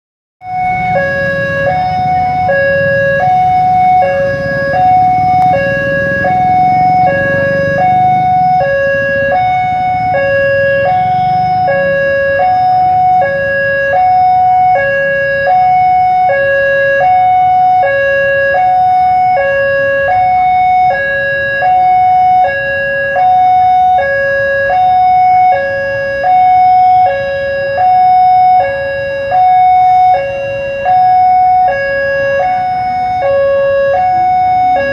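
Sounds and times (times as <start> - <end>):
motorbike and car engines: 0.4 - 34.9
two-tone crossing alarm: 0.4 - 34.9.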